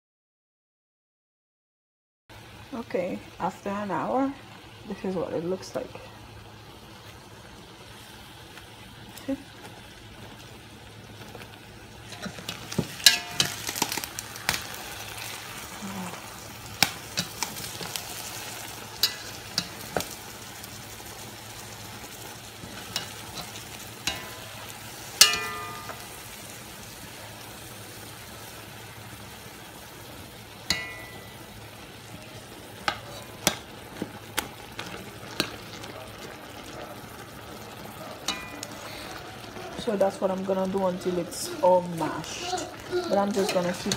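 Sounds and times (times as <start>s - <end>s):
sizzling from a pot: 2.3s - 43.9s.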